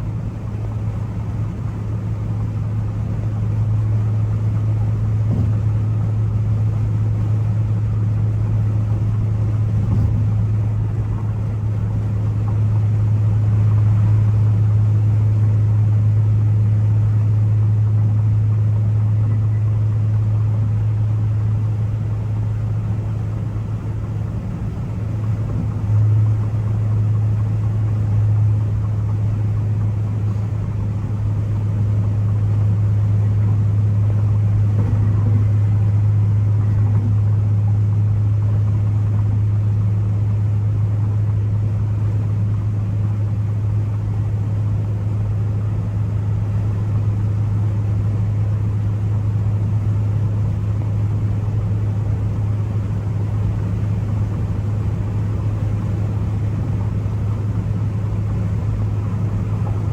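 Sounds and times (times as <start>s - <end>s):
car engine and exhaust droning: 0.0s - 59.9s.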